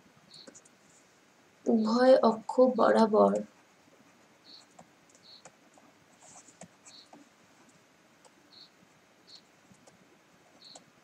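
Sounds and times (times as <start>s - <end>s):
stylus ticking and scratching on screen: 0.2s - 11.0s.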